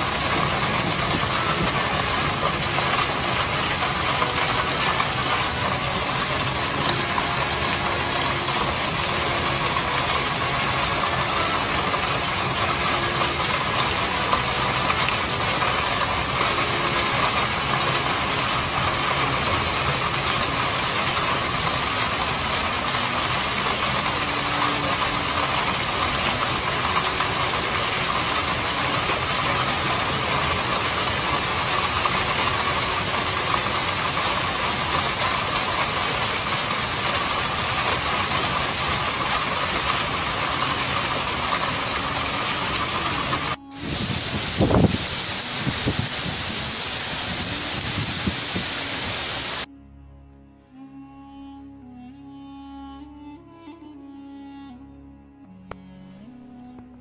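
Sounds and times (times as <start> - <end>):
heavy rain pouring: 0.0 - 49.7.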